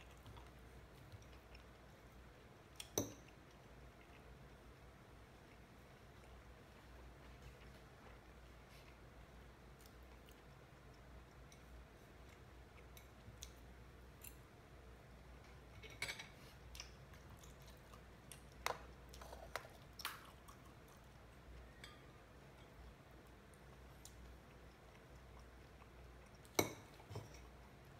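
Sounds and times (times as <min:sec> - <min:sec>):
quiet chewing: 0:00.0 - 0:27.9.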